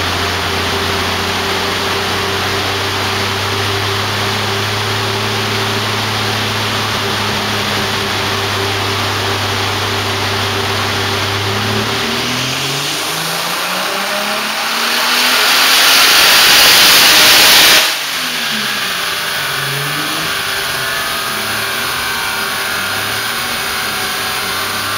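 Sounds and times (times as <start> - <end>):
turbocharged car engine revving: 0.0 - 24.9.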